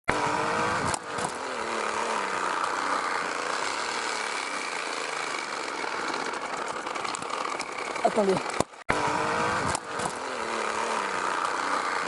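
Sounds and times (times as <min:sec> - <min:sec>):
bicycle engine buzzing: 0:00.1 - 0:12.0.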